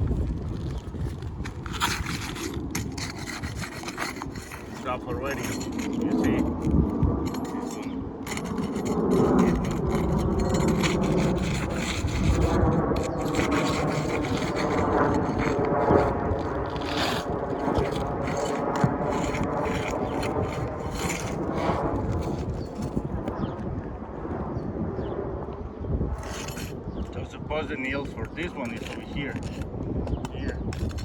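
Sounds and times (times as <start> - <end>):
shingles scraping and rubbing: 0.0 - 23.3, 26.2 - 31.0.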